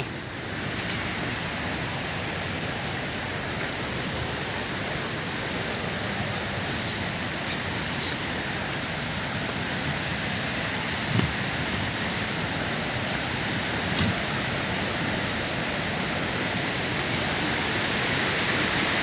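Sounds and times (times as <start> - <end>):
waterfall roar: 0.0 - 19.0.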